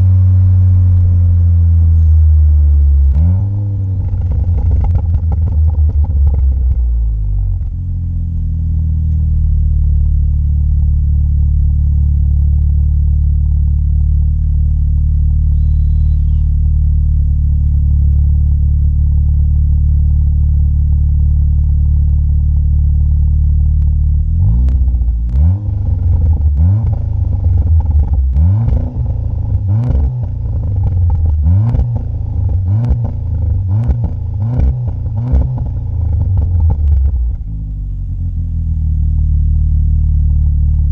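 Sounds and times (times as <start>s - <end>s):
car engine idling: 0.0s - 40.9s
exhaust cracks: 0.0s - 40.9s.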